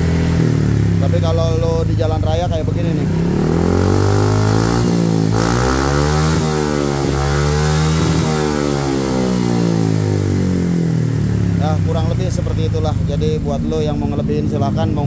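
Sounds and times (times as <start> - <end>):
scooter engine revving: 0.0 - 15.0.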